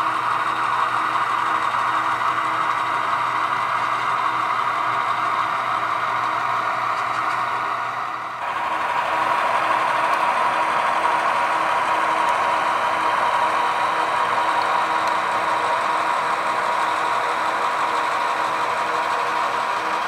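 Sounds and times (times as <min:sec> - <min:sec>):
hissy engine drone from small speaker: 0:00.0 - 0:20.0.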